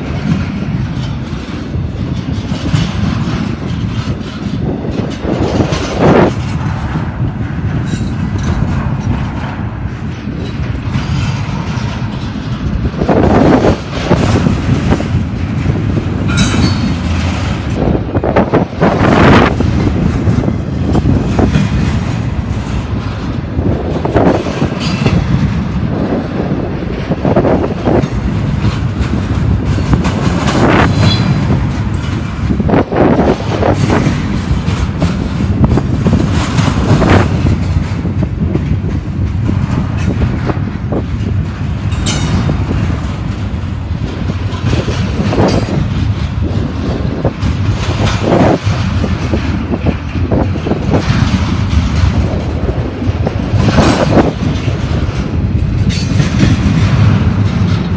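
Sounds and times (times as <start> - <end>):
clatter of wheel trucks: 0.0 - 57.9
heavy rumble of wheels on rail: 0.0 - 57.9.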